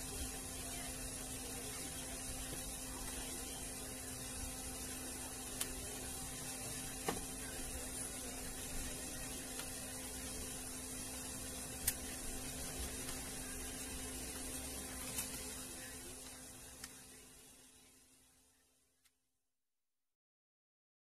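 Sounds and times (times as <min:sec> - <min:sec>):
electrical mains hum: 0:00.0 - 0:19.2.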